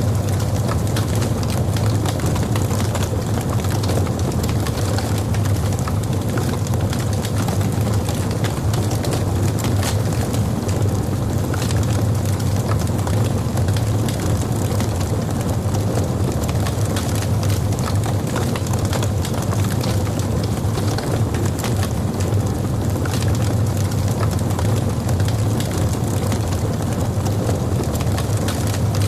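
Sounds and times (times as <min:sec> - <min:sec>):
fire crackling in fireplace: 0:00.0 - 0:29.0.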